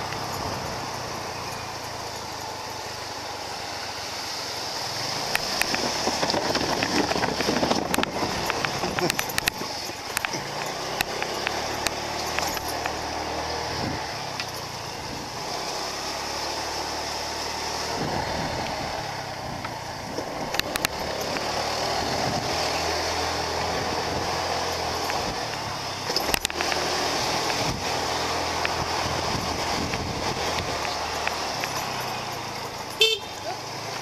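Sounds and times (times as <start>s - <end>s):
wind and road noise: 0.0s - 34.0s
motorbike engine running: 5.0s - 34.0s.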